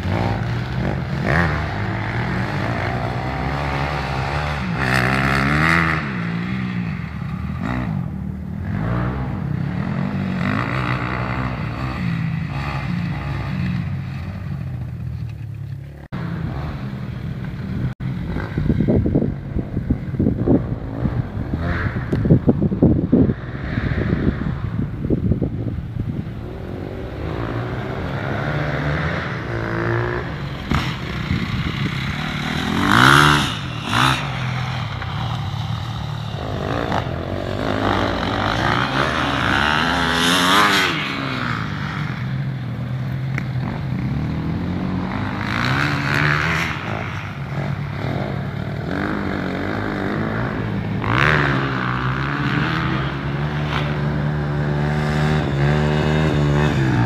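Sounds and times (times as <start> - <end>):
dirt bike engine revving: 0.0 - 15.1, 15.8 - 57.0.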